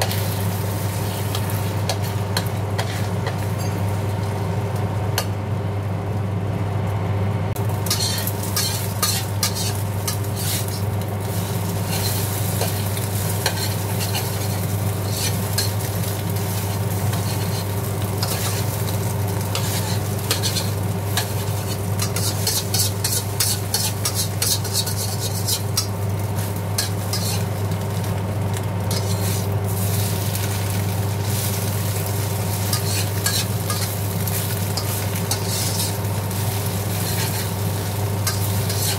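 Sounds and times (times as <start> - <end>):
spatula scraping a wok: 0.0 - 4.4, 7.7 - 28.0, 28.8 - 38.9
eggs sizzling in hot oil: 0.0 - 5.5, 7.5 - 38.9.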